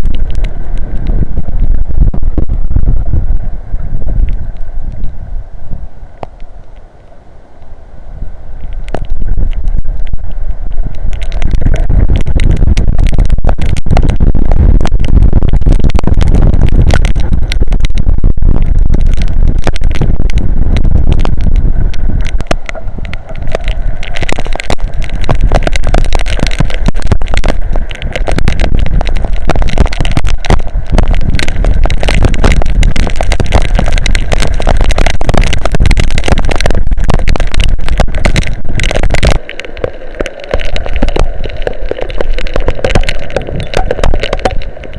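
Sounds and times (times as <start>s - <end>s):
raindrops pattering: 0.0s - 5.2s, 8.6s - 44.9s
strong wind on microphone: 0.0s - 6.4s, 8.0s - 44.9s.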